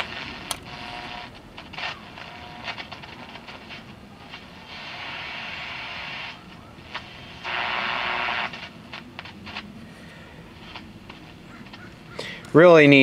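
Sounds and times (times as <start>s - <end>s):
radio crackles while tuning: 0.0s - 13.0s
radio static hiss: 0.0s - 13.0s.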